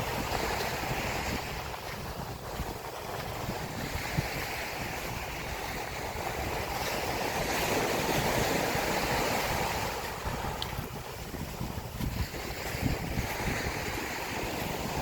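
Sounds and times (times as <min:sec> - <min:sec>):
waves washing on sandy beach: 0:00.0 - 0:15.0.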